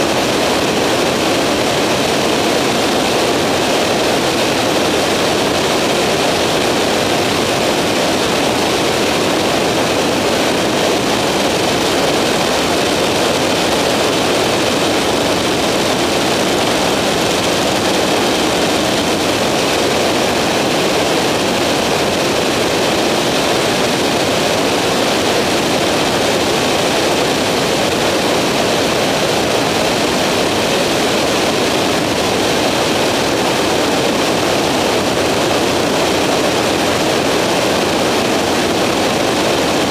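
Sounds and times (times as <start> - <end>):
microlight aircraft engine drone: 0.0 - 39.9.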